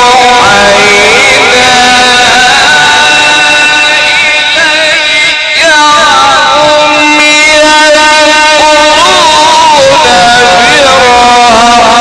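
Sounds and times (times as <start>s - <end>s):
man chanting melodic recitation: 0.0s - 12.0s.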